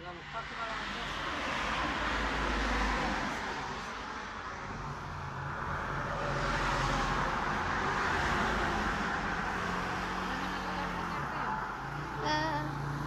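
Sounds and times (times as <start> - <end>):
vehicles passing on a street: 0.0 - 13.0.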